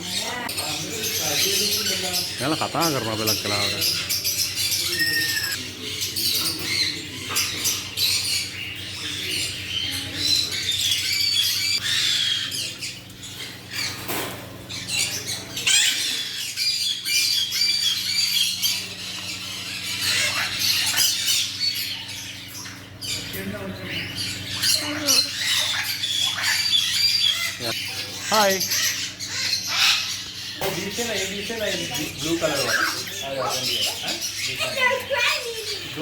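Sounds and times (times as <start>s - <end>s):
birds squawking and chirping: 0.0s - 36.0s.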